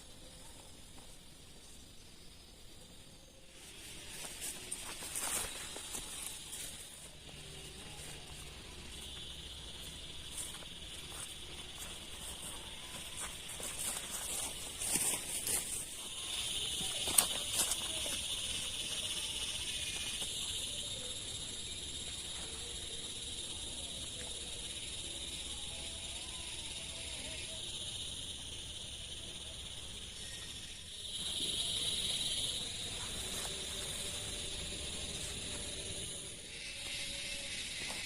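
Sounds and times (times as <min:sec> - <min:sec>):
chorus of insects: 0:00.0 - 0:38.0.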